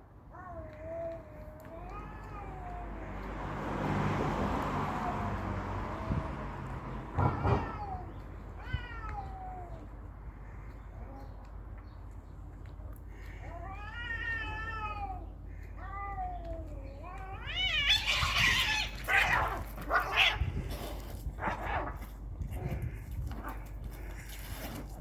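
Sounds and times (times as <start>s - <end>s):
cats yowling and screeching: 0.3s - 11.5s, 13.1s - 25.0s.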